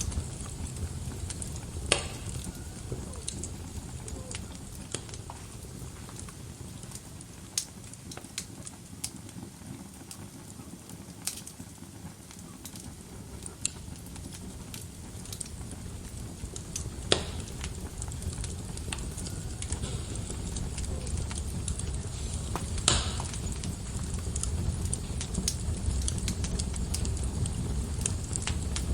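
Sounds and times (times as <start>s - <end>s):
fire burning in fireplace: 0.0s - 28.9s
fire crackles and pops: 0.0s - 28.9s.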